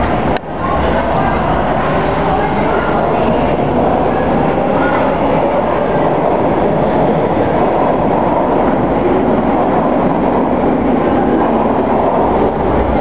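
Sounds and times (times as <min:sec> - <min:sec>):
streetcar wheels rumbling on rails: 0:00.0 - 0:13.0.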